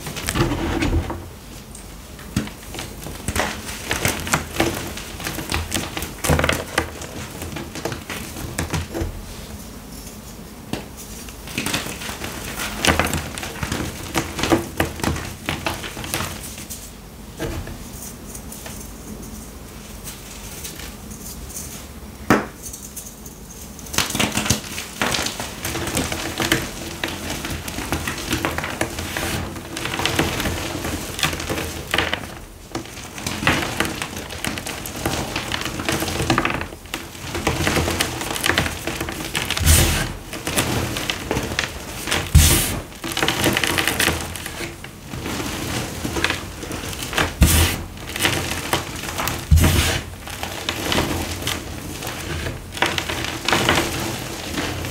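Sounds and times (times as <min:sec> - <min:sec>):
hands crushing chalk: 0:02.3 - 0:09.2, 0:10.7 - 0:16.8, 0:23.9 - 0:54.9.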